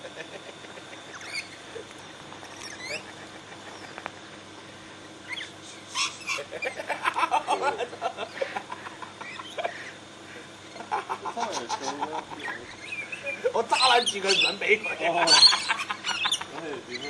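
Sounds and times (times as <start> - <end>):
parrots chattering and squawking: 0.1 - 17.0.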